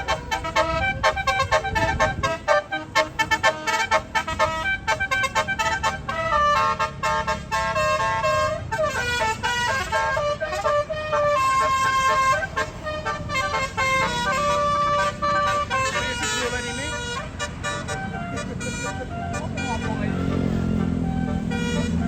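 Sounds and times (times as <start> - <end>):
musical air horn playing a tune: 0.0 - 22.0.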